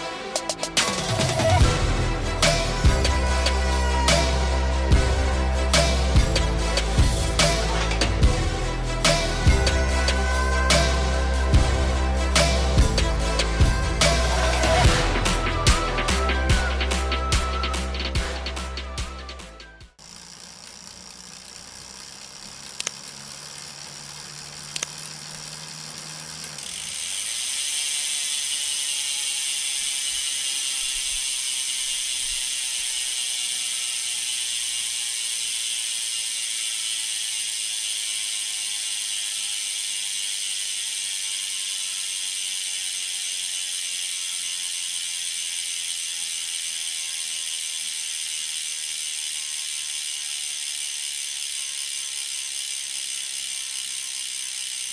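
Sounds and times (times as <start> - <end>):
bicycle chain drivetrain whirring: 0.0 - 54.9
bicycle freehub buzzing: 0.0 - 54.9
sharp drivetrain clicks: 0.0 - 54.9.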